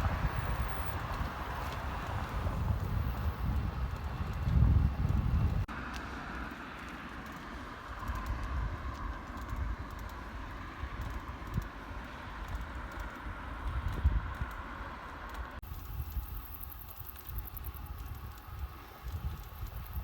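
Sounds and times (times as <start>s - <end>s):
wind buffeting microphone: 0.0s - 5.8s, 7.2s - 20.0s
bike tyre rumble: 0.0s - 20.0s.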